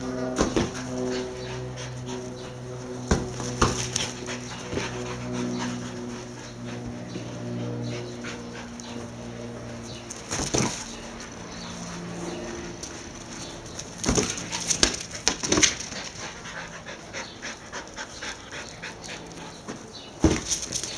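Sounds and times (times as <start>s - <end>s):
steady low hum: 0.0s - 20.9s
dog panting: 0.2s - 20.9s.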